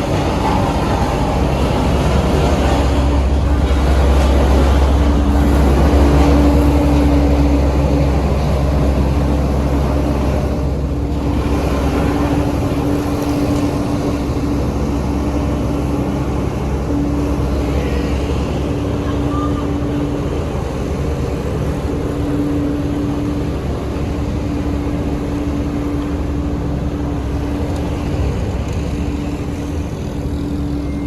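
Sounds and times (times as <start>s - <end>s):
deep diesel engine rumble: 0.0s - 31.0s
steady hum: 0.0s - 31.0s.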